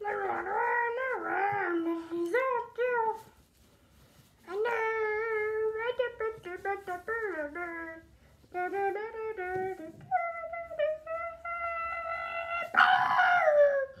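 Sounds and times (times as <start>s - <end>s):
high voice singing wordless melody: 0.0s - 3.5s, 4.4s - 14.0s.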